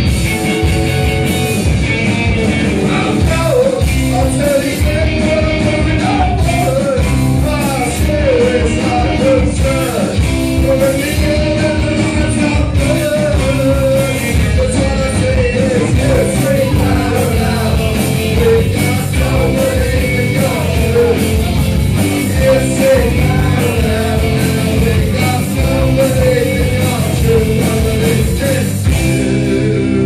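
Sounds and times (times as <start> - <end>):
drums: 0.0 - 30.0
electric guitars: 0.0 - 30.0
man singing into a microphone: 1.8 - 21.6, 22.2 - 30.0.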